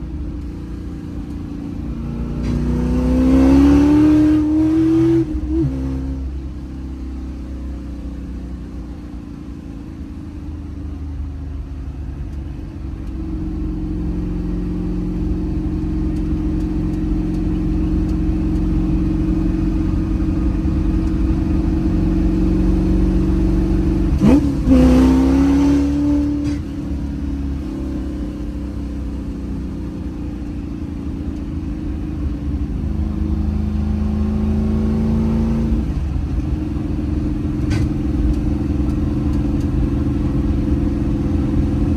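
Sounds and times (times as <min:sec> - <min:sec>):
car engine revving: 0:00.0 - 0:07.8, 0:12.1 - 0:41.9.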